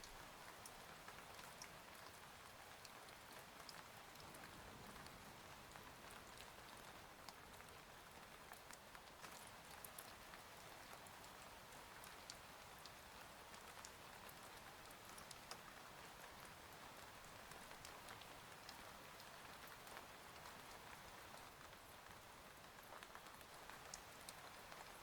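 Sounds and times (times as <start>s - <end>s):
faint steady rain: 0.0s - 25.0s.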